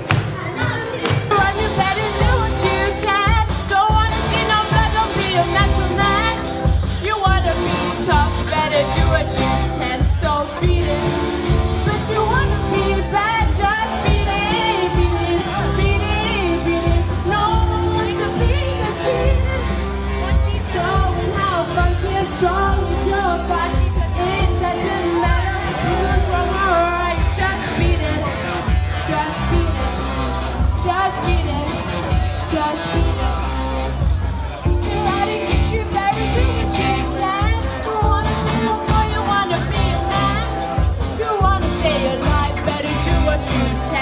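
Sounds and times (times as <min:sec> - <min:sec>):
drum and bass beat: 0:00.0 - 0:44.0
lead vocal singing: 0:00.0 - 0:44.0.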